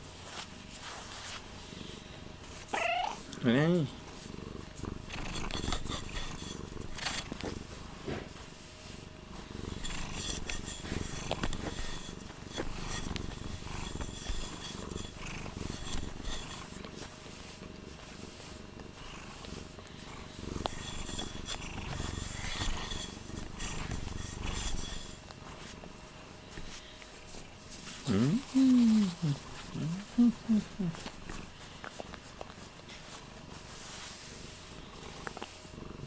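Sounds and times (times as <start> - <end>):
fur rubbing on microphone: 0.1 - 1.6, 4.0 - 35.6
cat purring: 0.8 - 36.0.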